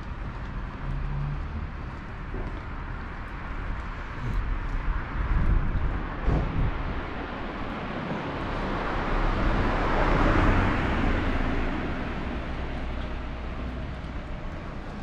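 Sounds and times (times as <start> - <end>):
car driving slowly: 0.0 - 15.0.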